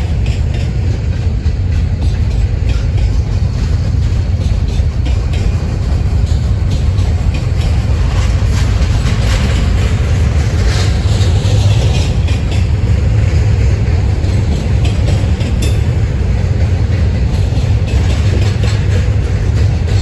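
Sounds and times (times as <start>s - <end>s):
train wheels rumbling on rails: 0.0s - 20.0s
wheels clicking over track: 0.0s - 20.0s.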